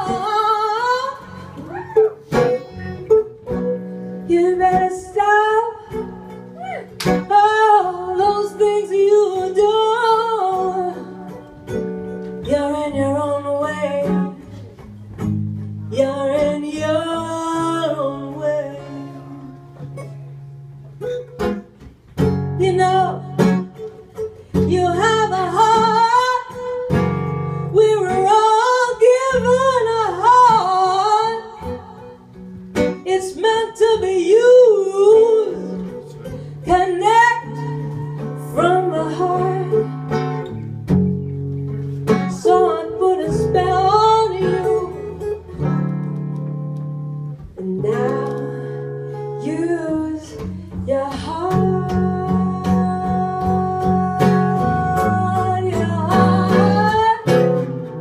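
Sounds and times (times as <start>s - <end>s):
woman singing into microphone: 0.0s - 14.8s, 15.9s - 20.0s, 22.4s - 40.5s, 42.1s - 45.8s, 47.4s - 58.0s
acoustic guitars: 0.0s - 58.0s.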